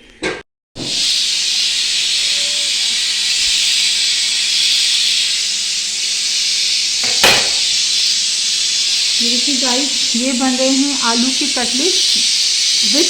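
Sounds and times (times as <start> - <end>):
oil sizzling while frying: 0.8 - 13.0.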